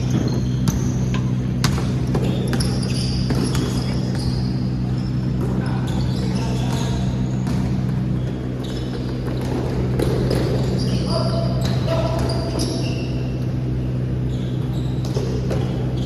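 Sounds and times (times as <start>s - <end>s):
ball bouncing on court: 0.0s - 13.0s, 14.3s - 16.0s
shoe squeaks: 0.0s - 16.0s
steady low hum: 0.0s - 16.0s.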